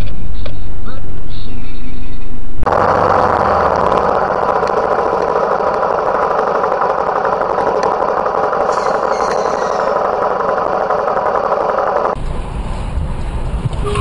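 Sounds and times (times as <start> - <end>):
vehicle engine running: 2.6 - 14.0.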